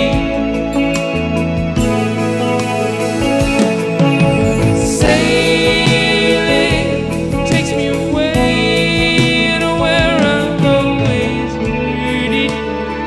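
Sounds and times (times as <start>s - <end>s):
band playing soft-rock ballad: 0.0s - 13.0s.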